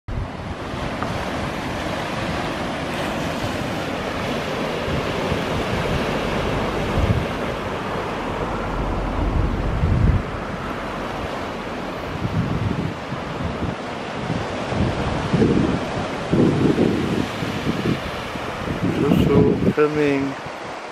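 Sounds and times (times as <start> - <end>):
wind buffeting microphone: 0.1 - 20.9
surf breaking over rocks: 0.2 - 20.9.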